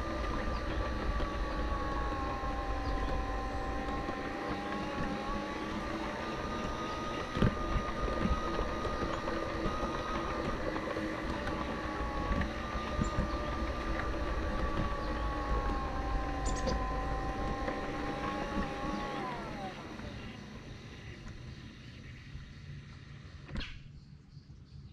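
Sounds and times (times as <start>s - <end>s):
model train motor whine: 0.0s - 23.5s.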